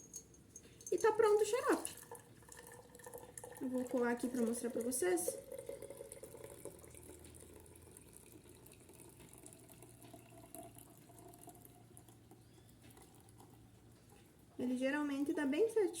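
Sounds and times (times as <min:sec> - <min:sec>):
syrup trickling into glass jar: 0:00.0 - 0:14.4.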